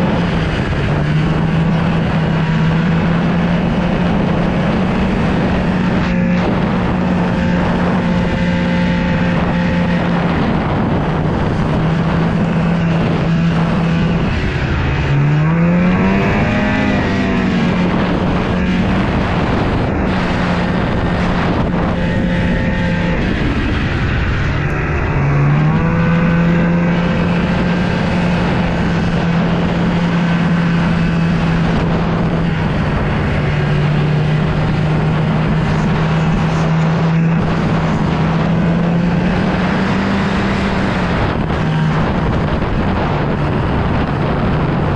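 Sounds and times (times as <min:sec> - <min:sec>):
snowmobile engine idling and revving: 0:00.0 - 0:44.9.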